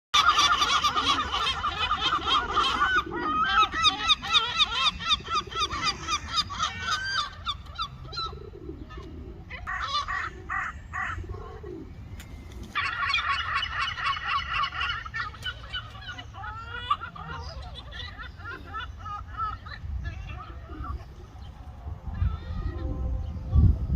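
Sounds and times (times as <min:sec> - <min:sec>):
gulls squawking: 0:00.2 - 0:23.9.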